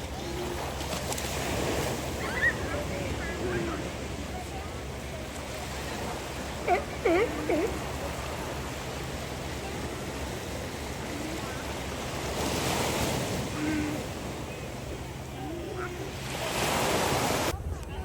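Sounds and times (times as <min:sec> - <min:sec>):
ocean surf on a beach: 0:00.0 - 0:18.0.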